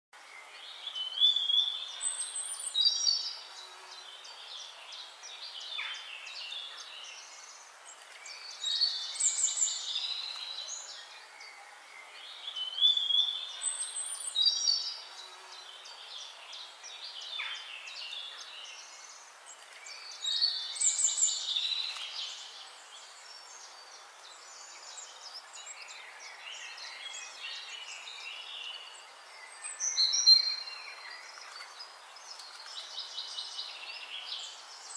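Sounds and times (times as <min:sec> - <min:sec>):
birds chirping: 0:00.2 - 0:34.9
songbird singing varied phrases: 0:00.3 - 0:34.9.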